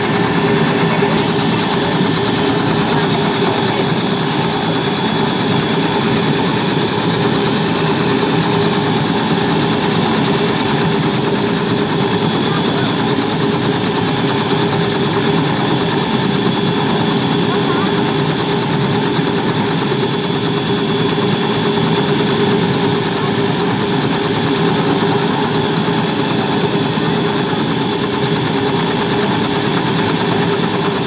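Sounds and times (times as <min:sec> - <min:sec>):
high turbine whine: 0:00.0 - 0:31.0
rotor blades beating: 0:00.0 - 0:31.0.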